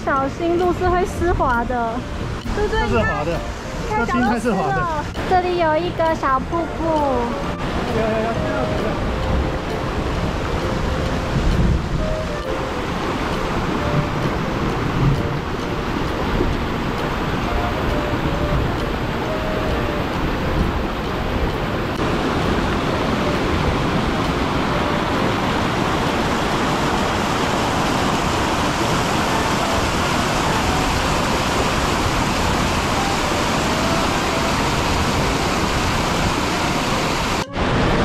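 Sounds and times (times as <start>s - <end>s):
stream rushing over rocks: 0.0s - 38.0s.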